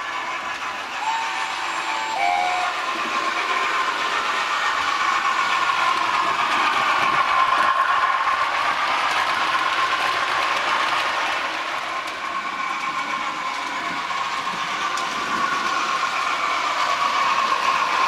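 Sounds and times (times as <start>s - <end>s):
wheels rolling on rails: 0.0s - 18.0s.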